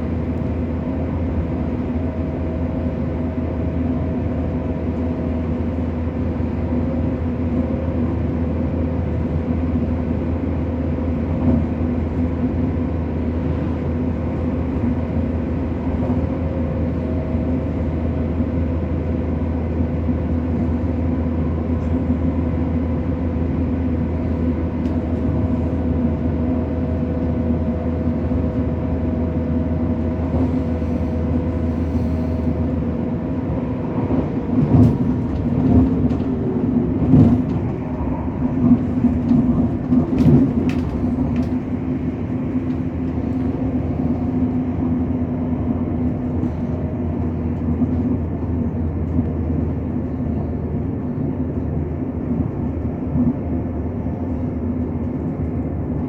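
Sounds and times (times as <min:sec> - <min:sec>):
constant hum: 0:00.0 - 0:56.0
train rumbling on tracks: 0:00.0 - 0:56.0.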